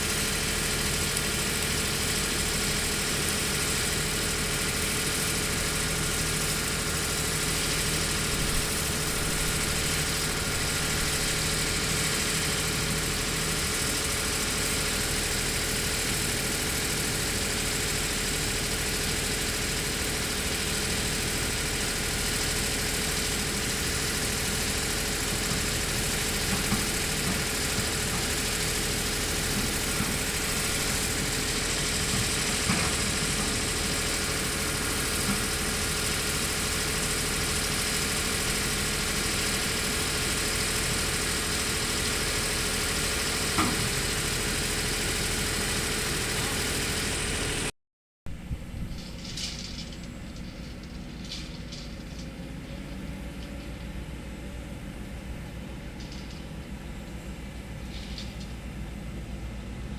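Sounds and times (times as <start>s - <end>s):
excavator diesel engine running: 0.0s - 47.7s, 48.3s - 59.9s.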